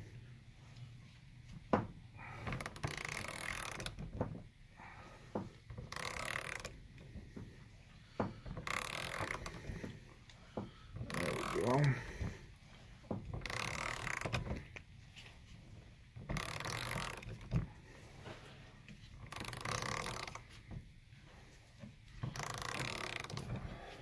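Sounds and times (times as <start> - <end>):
heavy rhythmic breathing: 0.0 - 24.0.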